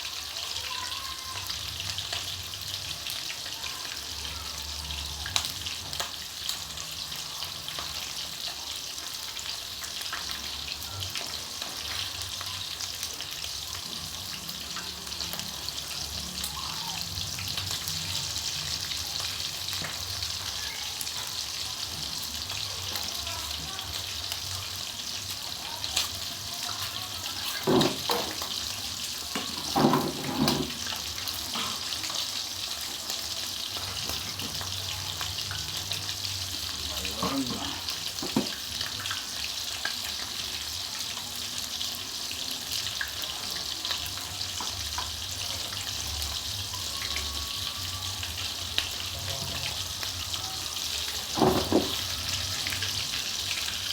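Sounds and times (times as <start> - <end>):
chicken frying in hot oil: 0.0 - 53.9.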